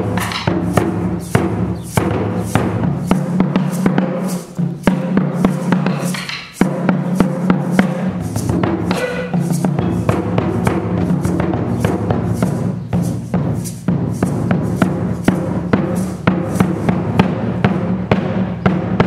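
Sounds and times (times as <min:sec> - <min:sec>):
drums struck with sticks: 0:00.0 - 0:19.0.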